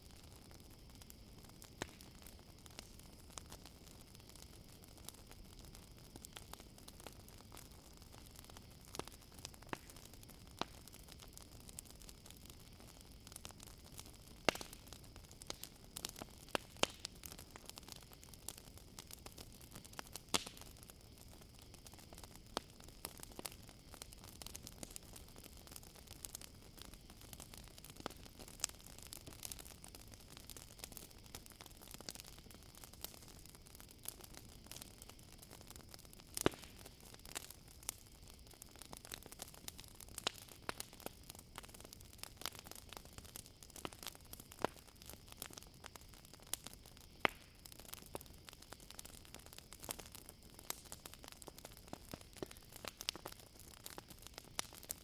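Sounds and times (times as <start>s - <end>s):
campfire crackling and popping: 0.0s - 55.0s
crickets chirring: 0.0s - 55.0s.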